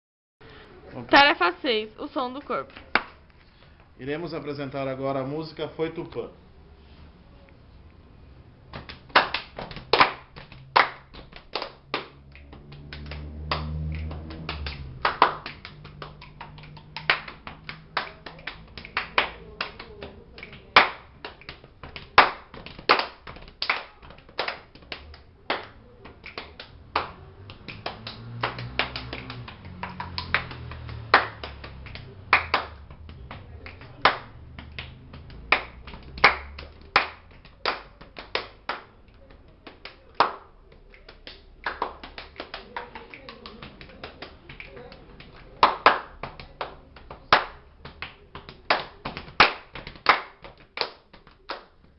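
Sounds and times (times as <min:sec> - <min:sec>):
hand claps taps and finger snaps: 0:08.7 - 0:51.9.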